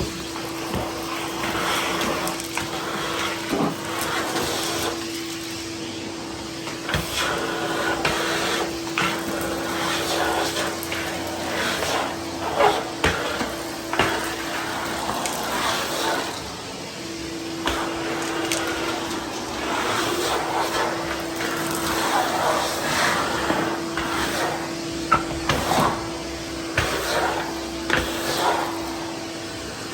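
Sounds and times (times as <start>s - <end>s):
debris clattering through hose: 0.0s - 5.8s, 6.6s - 16.6s, 17.5s - 29.0s
shop vacuum motor whine: 0.0s - 29.9s.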